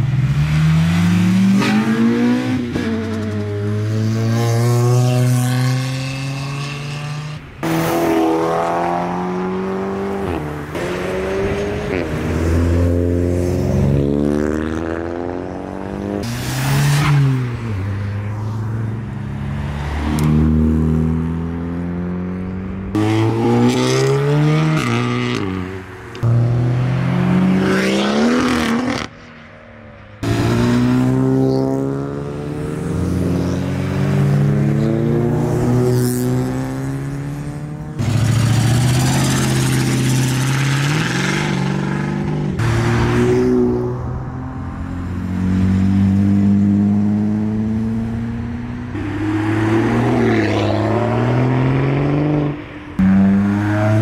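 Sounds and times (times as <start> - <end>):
car engines revving hard: 0.0 - 29.2, 30.2 - 54.0.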